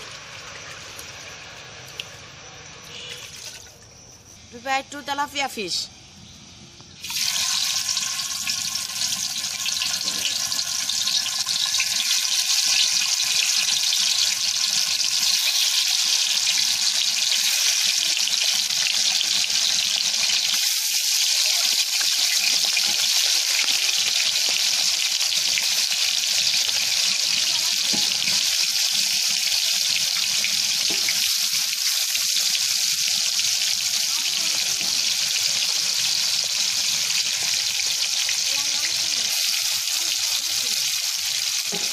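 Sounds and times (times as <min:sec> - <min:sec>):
fish sizzling in hot oil: 0:00.0 - 0:04.4, 0:06.9 - 0:41.9.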